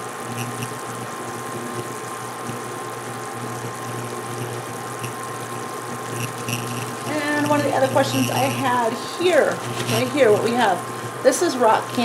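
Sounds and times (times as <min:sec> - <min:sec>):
syrup boiling in a saucepan: 0:00.0 - 0:12.0.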